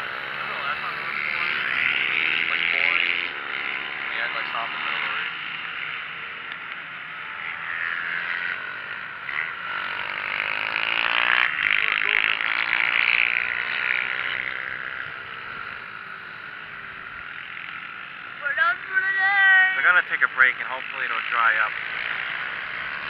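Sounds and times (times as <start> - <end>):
racing motorcycles passing: 0.0 - 23.0.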